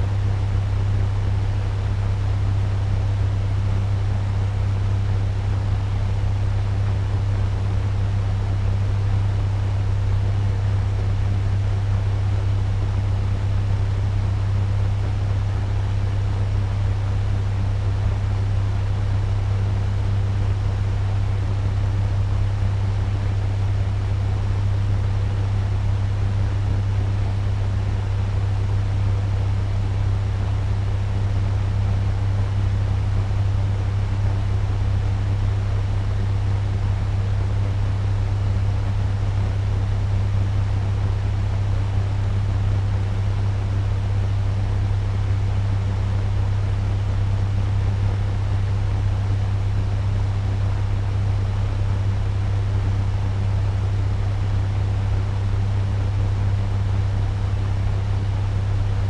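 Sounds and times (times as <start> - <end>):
fan running: 0.0 - 59.0.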